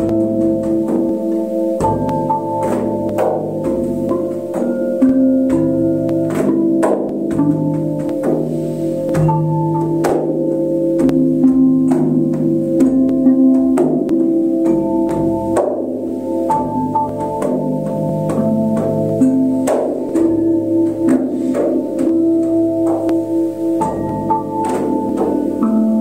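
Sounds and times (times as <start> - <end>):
flat bells struck with mallet: 0.0 - 26.0.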